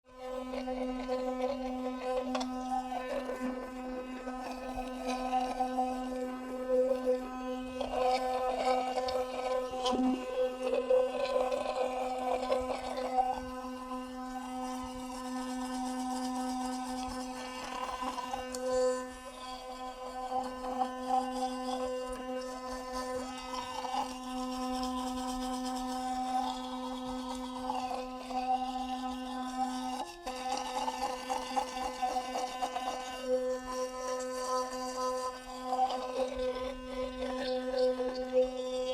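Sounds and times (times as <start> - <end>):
electric toothbrush buzzing: 0.1 - 38.9
brush scrubbing teeth: 0.4 - 13.6, 14.6 - 38.9.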